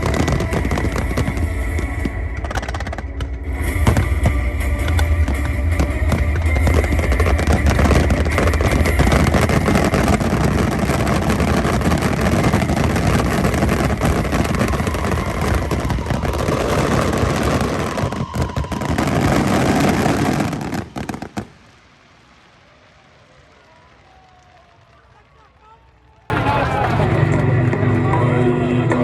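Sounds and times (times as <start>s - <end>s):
fireworks bursts and crackling: 0.0s - 29.0s.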